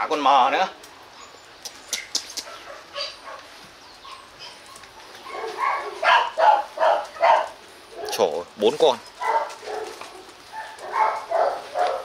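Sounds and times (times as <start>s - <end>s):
dogs barking: 2.4s - 12.0s.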